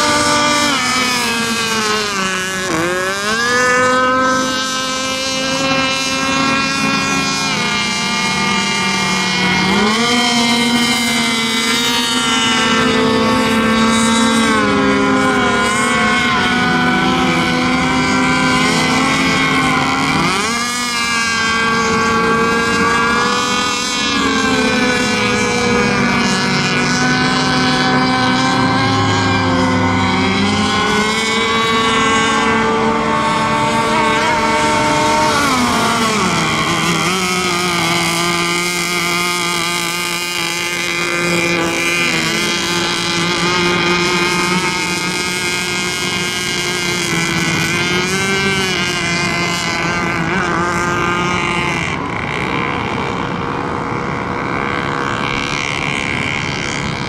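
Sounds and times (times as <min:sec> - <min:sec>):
racing boat motors: 0:00.0 - 0:57.0.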